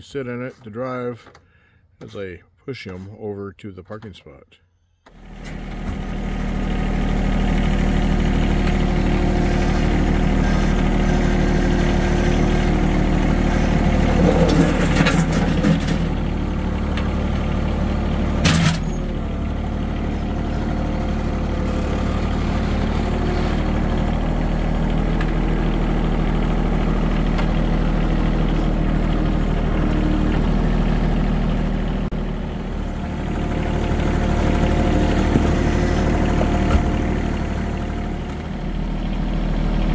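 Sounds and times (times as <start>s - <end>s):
tractor engine running: 5.0s - 39.9s.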